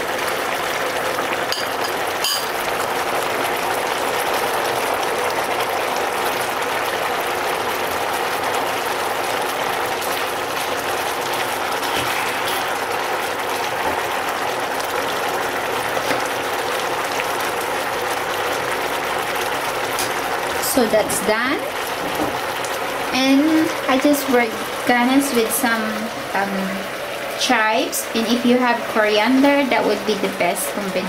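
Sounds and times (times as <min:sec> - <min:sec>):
sauce sizzling in a hot pan: 0:00.0 - 0:31.0.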